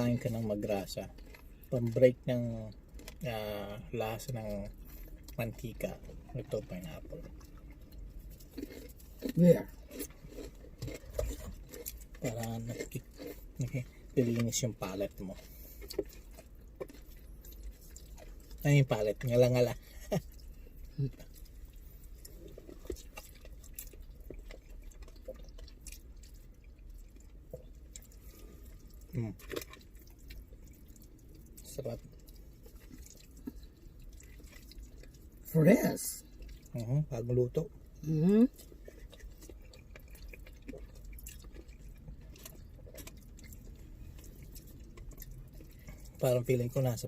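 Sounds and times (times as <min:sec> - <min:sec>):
chewing mouth clicks and smacks: 0:00.0 - 0:35.5, 0:36.2 - 0:46.9
steady low hum: 0:00.0 - 0:47.0.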